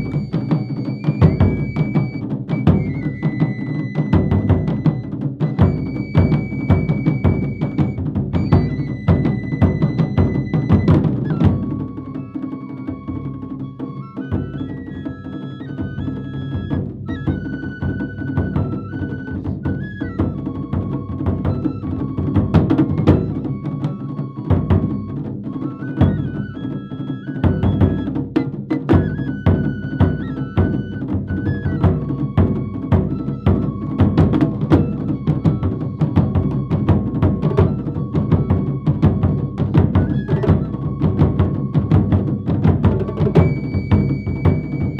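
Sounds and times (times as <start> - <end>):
taiko drums playing fast rhythm: 0.0 - 44.9.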